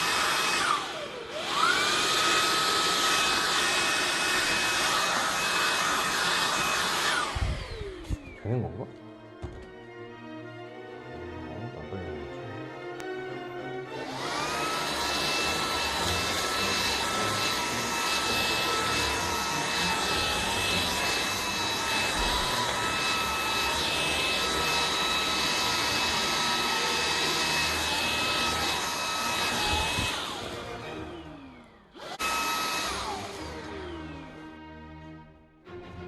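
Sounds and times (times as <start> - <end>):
vacuum cleaner motor whine: 0.0 - 10.3, 13.0 - 35.2.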